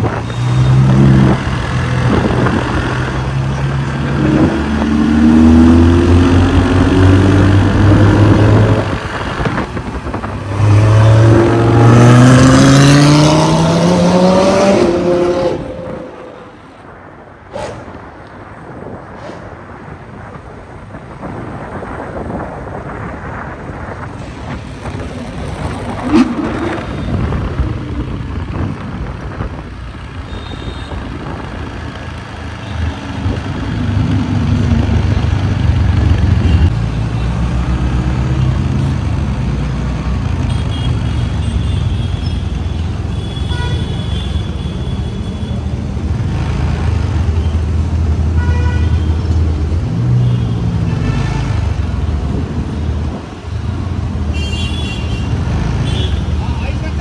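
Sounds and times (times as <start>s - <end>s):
car engines passing: 0.0s - 30.3s, 31.1s - 43.1s, 43.7s - 57.0s.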